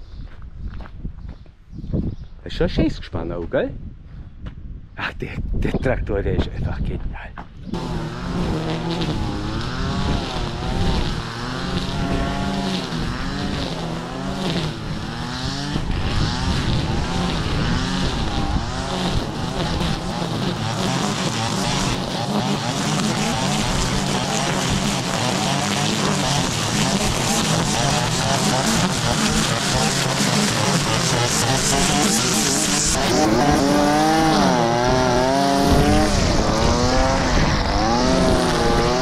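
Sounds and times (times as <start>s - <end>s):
tractor engine running: 7.8s - 39.0s.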